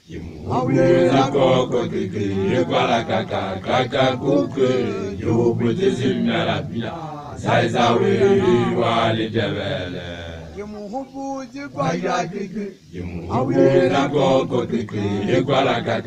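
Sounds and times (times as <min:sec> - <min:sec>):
man chanting loudly: 0:00.0 - 0:16.0.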